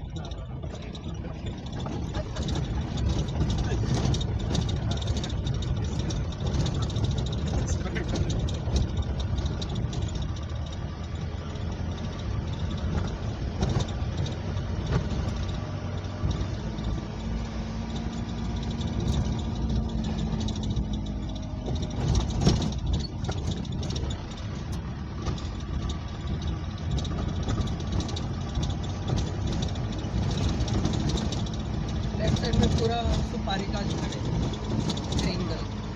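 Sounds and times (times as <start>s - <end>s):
vehicle body rattling: 0.0s - 35.9s
vehicle engine running: 0.0s - 35.9s.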